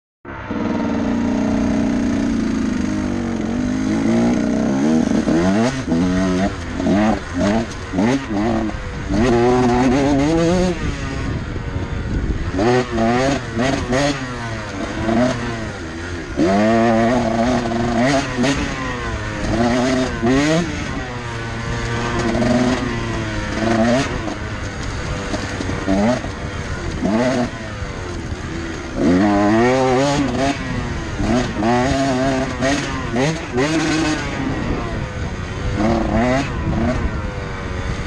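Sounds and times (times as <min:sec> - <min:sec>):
dirt bike engine revving: 0:00.3 - 0:38.0.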